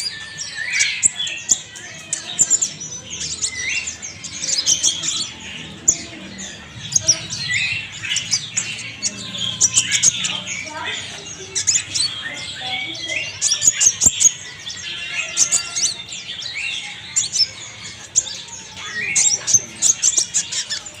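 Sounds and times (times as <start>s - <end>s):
sunbird singing: 0.0s - 21.0s.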